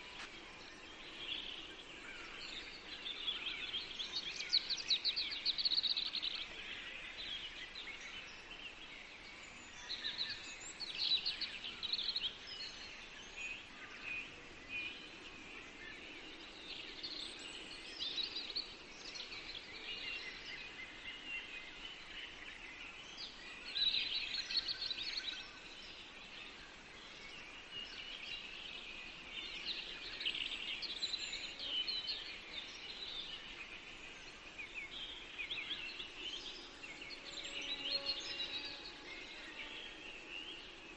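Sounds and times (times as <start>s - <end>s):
faint steady hiss: 0.0s - 40.9s
songbirds chirping and trilling: 0.0s - 40.9s.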